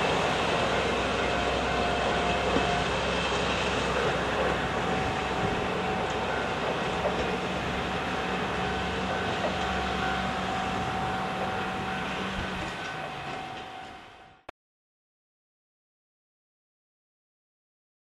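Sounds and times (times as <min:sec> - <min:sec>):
diesel railcar engine drone: 0:00.0 - 0:14.5
held whine: 0:00.0 - 0:14.5
rail noise: 0:00.0 - 0:14.5.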